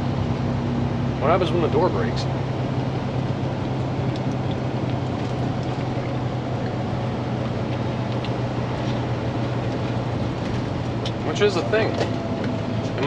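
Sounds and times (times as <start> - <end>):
diesel truck engine droning: 0.0 - 13.0
road noise: 0.0 - 13.0.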